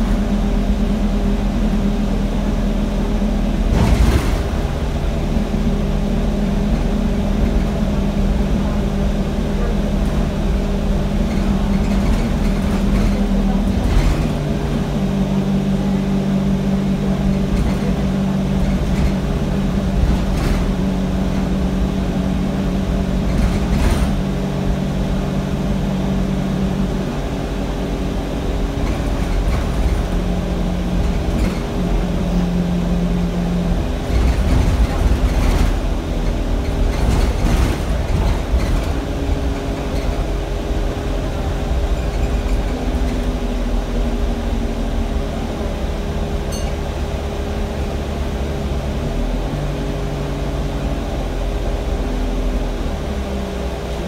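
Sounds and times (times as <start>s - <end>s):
bus diesel engine under load: 0.0s - 54.0s
low road rumble: 0.0s - 54.0s
bus body knocks and rattles: 1.6s - 49.6s.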